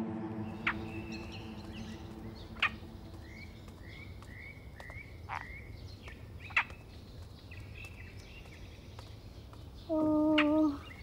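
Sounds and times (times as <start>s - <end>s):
low background rumble: 0.0s - 10.9s
birds calling: 0.3s - 11.0s.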